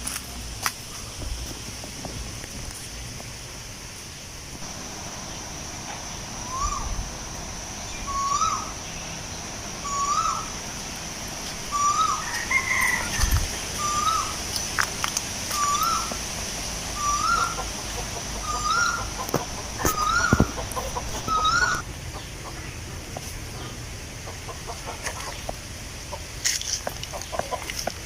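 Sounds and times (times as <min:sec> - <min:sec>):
steady high hiss: 0:00.0 - 0:28.0
bird calling: 0:04.6 - 0:28.0.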